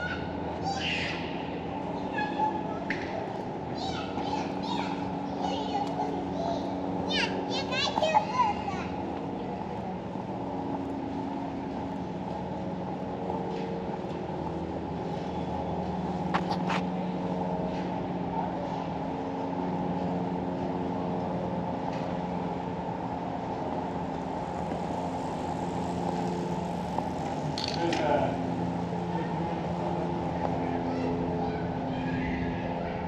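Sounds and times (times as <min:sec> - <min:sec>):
engine humming: 0:00.0 - 0:33.0.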